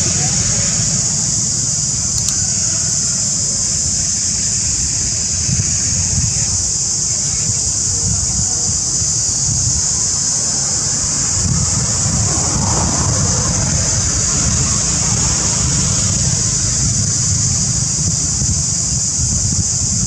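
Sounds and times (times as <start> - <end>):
high-pitched hiss: 0.0 - 20.0
wind buffeting microphone: 0.0 - 20.0.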